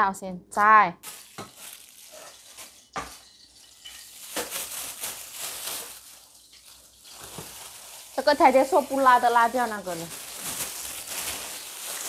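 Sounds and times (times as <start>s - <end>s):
wok sizzling: 1.0s - 12.0s.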